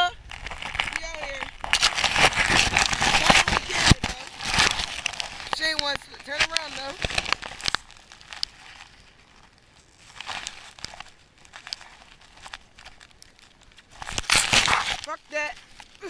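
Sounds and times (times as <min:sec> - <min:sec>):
crunching and rustling: 0:00.0 - 0:16.0.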